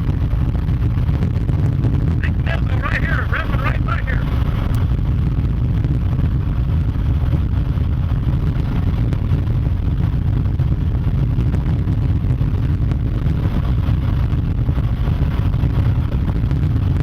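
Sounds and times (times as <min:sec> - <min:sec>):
moving vehicle rumble: 0:00.0 - 0:17.0
wind noise: 0:00.0 - 0:17.0.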